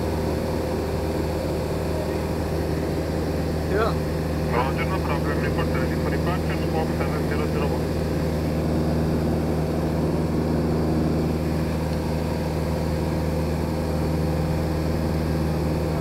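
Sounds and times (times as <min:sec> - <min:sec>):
airplane engine and propeller drone: 0:00.0 - 0:16.0.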